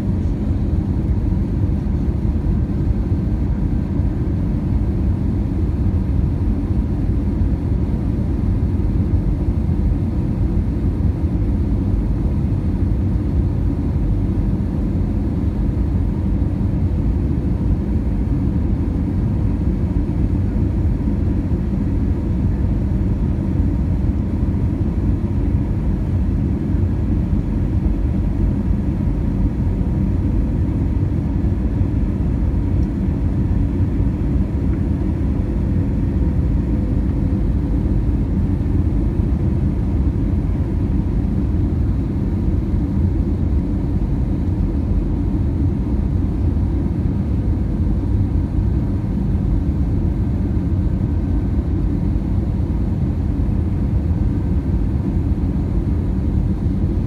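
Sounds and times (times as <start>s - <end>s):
airplane engine rumble: 0.0s - 57.0s.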